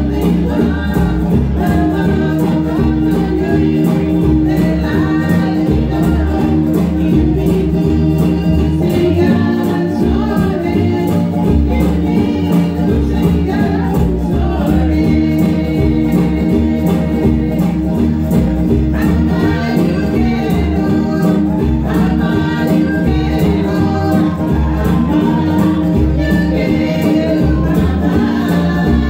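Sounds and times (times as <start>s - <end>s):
strummed guitars and ukuleles: 0.0s - 29.0s
women singing together: 0.0s - 29.0s.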